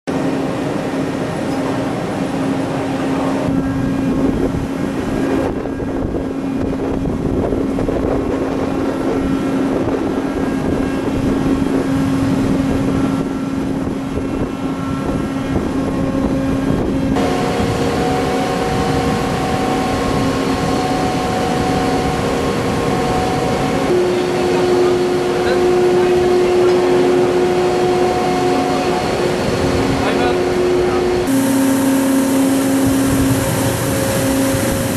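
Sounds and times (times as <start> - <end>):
constant hum: 0.1 - 34.9
drilling ship machinery drone: 0.1 - 34.9.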